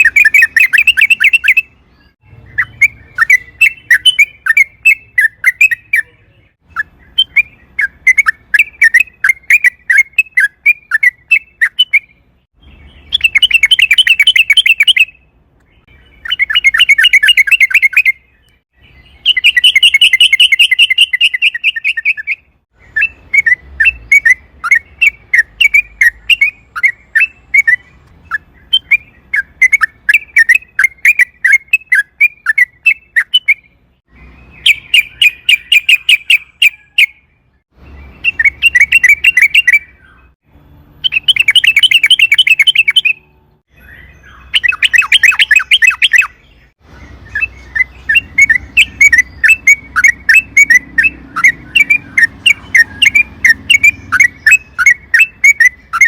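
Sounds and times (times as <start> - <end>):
bird chirping notes: 0.0 - 56.0.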